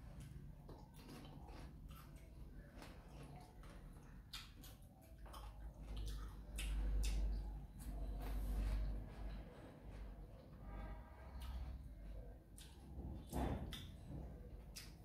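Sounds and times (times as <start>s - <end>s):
wet chewing: 0.0s - 8.4s, 11.3s - 15.0s.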